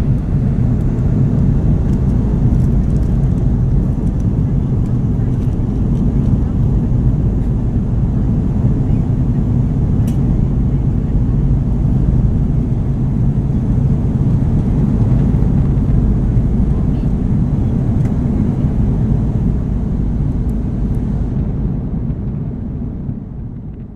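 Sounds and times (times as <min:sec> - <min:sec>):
airplane engines droning in cabin: 0:00.0 - 0:23.9.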